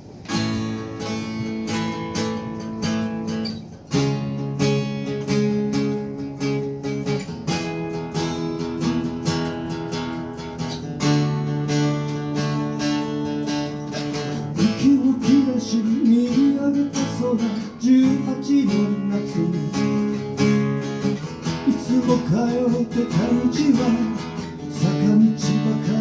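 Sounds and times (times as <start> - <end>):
guitar strumming: 0.0 - 26.0.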